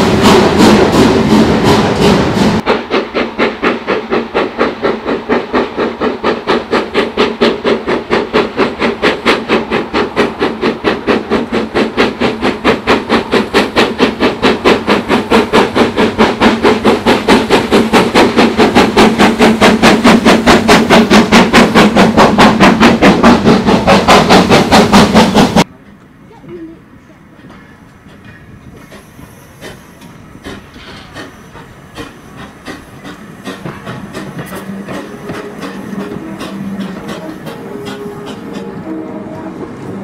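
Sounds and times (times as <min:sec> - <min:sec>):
steam locomotive exhaust beats: 0:00.0 - 0:40.0.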